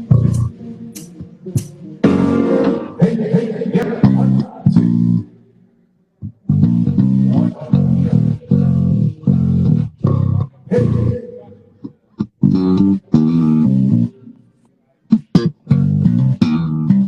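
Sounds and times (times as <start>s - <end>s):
electric bass guitar: 0.0s - 3.2s, 3.8s - 5.4s, 6.2s - 14.4s, 15.1s - 17.0s.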